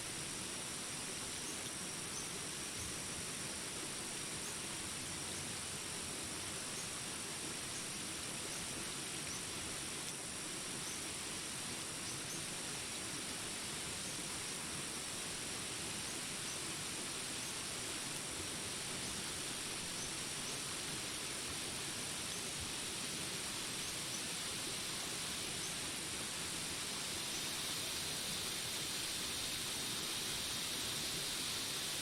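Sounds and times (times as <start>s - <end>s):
insects droning: 0.0s - 32.0s
rain hiss: 0.0s - 32.0s.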